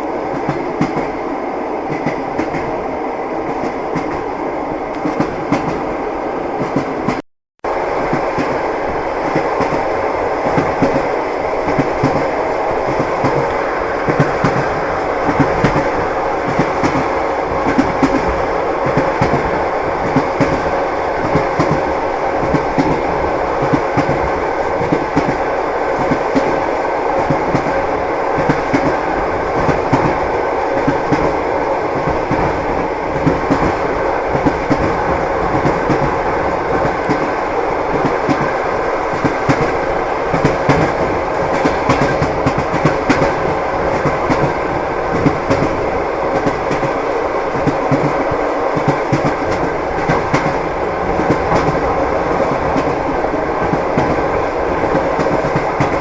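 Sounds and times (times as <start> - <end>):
train wheel rumble: 0.0 - 56.0.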